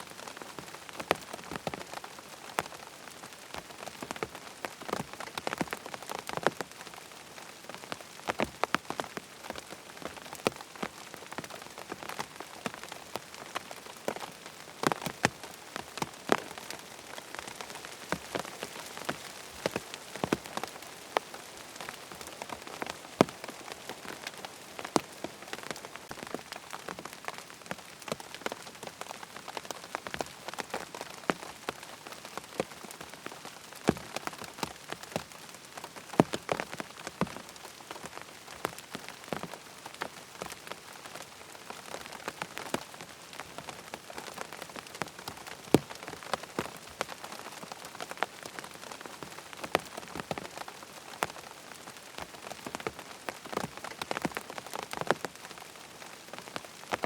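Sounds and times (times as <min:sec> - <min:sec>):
rain falling on a tent: 0:00.0 - 0:57.0
raindrops tapping on fabric: 0:00.0 - 0:57.0.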